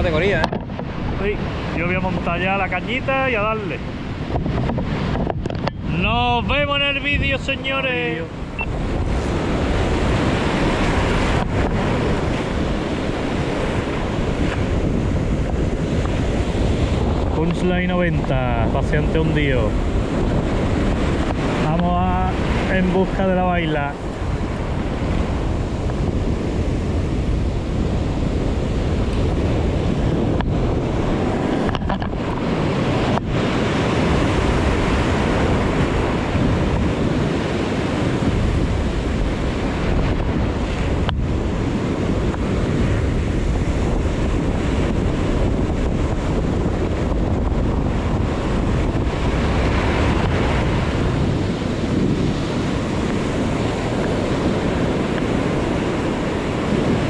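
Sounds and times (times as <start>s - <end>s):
surf breaking on rocks: 0.0s - 57.0s
wind buffeting microphone: 0.0s - 57.0s.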